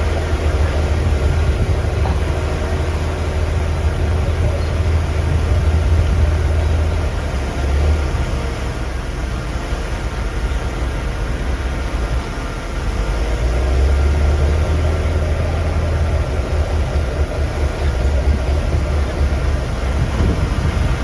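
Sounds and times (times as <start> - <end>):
heavy diesel engine rumbling: 0.0 - 21.0.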